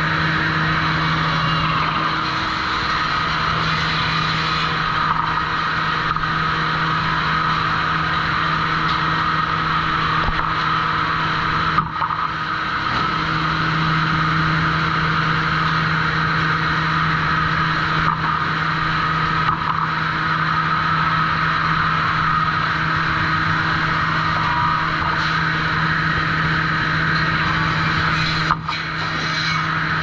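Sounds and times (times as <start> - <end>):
saw machinery whine and hum: 0.0 - 30.0.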